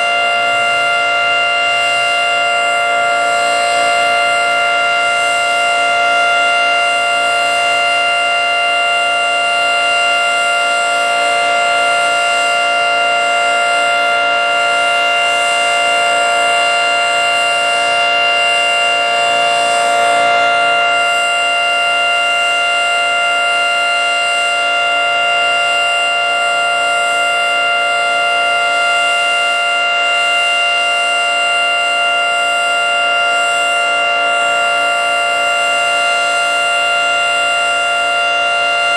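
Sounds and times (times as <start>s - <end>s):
steady warning siren chord: 0.0s - 38.9s.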